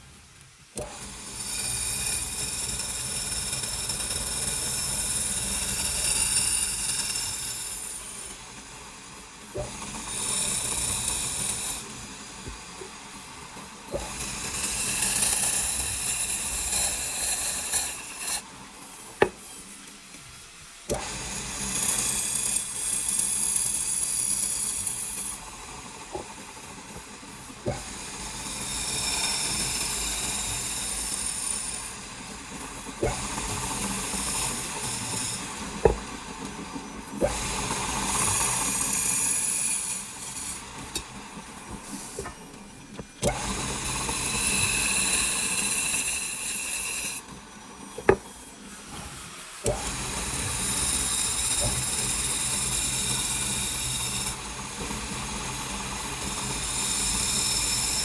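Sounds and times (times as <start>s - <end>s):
power tool whirring on wood: 0.8s - 12.9s, 13.5s - 18.5s, 20.9s - 58.0s.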